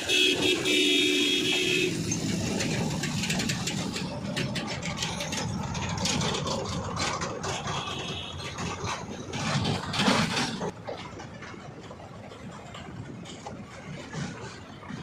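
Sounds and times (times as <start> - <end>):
diesel engines rumbling: 0.0 - 15.0
rattling clicks: 1.9 - 14.8.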